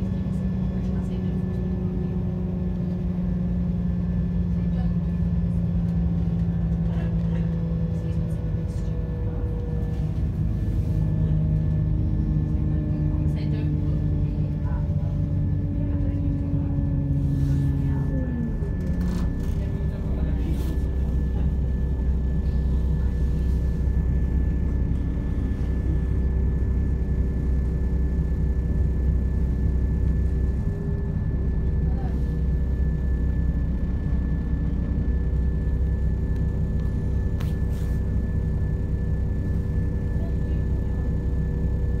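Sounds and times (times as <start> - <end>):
train diesel engine rumble: 0.0 - 42.0
steady tonal hum: 7.9 - 42.0.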